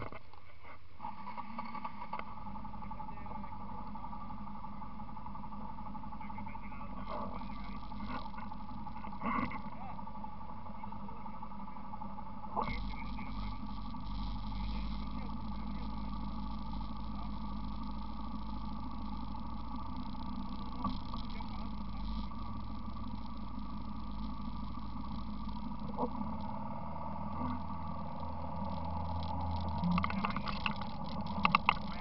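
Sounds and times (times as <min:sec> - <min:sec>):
quad engine idling: 0:01.0 - 0:32.0.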